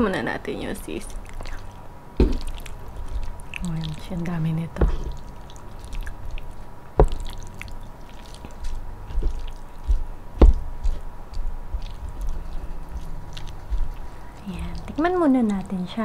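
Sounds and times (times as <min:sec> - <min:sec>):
wet squishing and stirring: 0:00.0 - 0:16.0.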